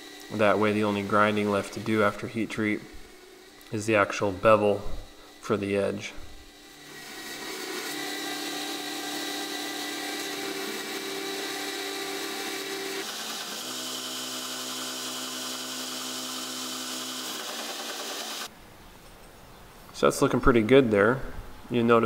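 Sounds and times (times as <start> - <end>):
belt grinder grinding steel: 0.0 - 18.5.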